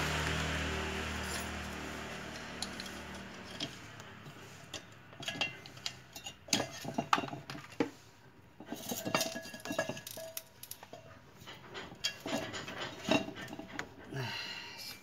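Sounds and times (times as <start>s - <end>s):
metal clinks and scrapes: 1.1s - 14.1s.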